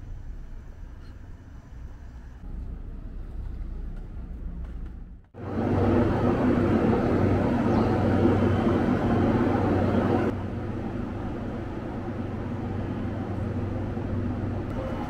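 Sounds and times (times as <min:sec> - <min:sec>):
electric trains idling hum: 0:00.0 - 0:15.0.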